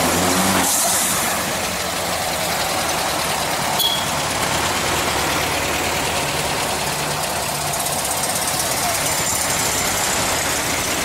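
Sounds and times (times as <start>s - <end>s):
car engines driving past: 0.0s - 11.0s.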